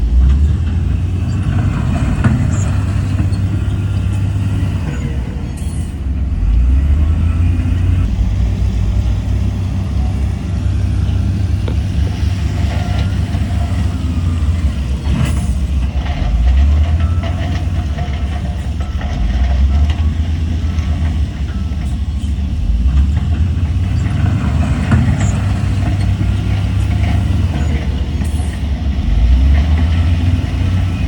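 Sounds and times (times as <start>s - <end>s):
heavy diesel engine rumbling: 0.0s - 31.0s.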